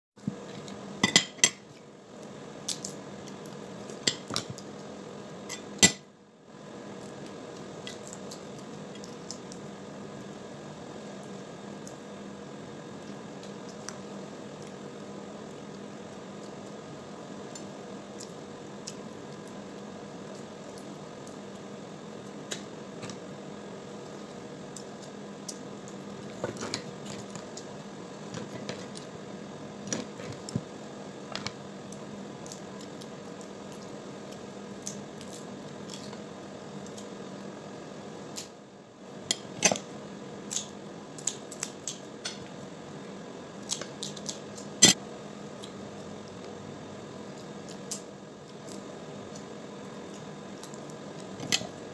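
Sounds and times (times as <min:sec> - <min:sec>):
steady low hum: 0:00.2 - 0:51.9.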